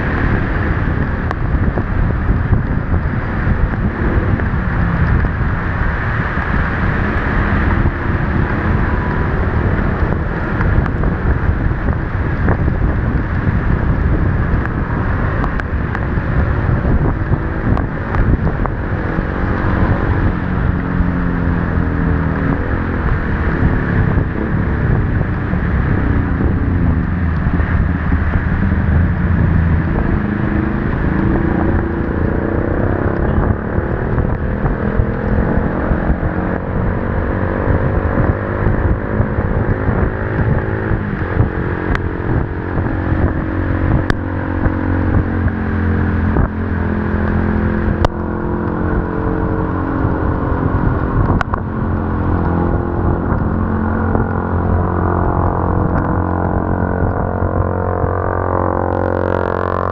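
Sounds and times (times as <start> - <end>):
heavy rain on camera: 0.0 - 59.0
motorcycle engine running: 0.0 - 59.9
wind rushing: 0.0 - 59.9.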